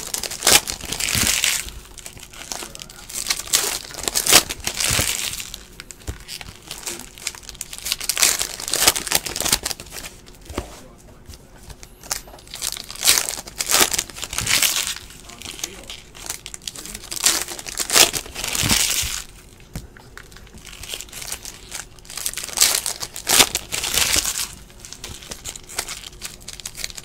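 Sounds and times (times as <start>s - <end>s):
plastic wrappers crinkling and tearing: 0.0s - 10.6s, 11.6s - 27.0s.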